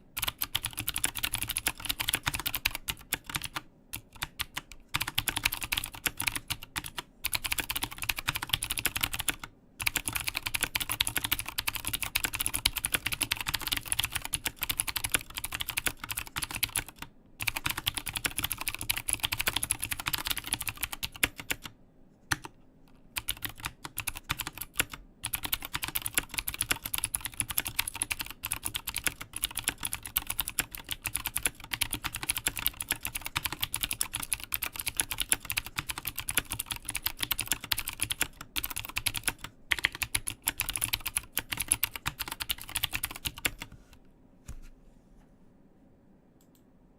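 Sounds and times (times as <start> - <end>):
clicky mechanical keyboard typing: 0.2 - 43.8.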